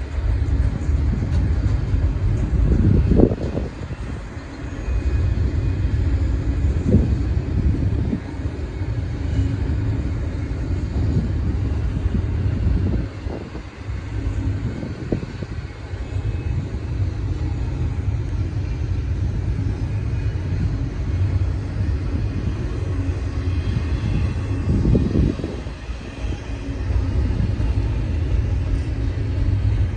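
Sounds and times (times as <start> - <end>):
freight train wheels rumbling: 0.0 - 29.9.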